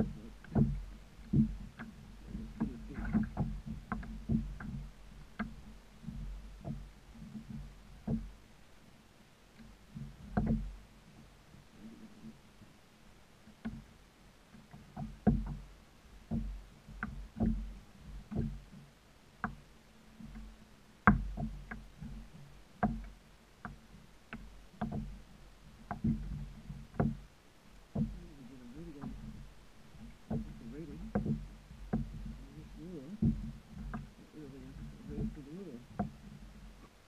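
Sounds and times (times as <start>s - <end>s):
knocks and clicks on boat: 0.0s - 37.0s.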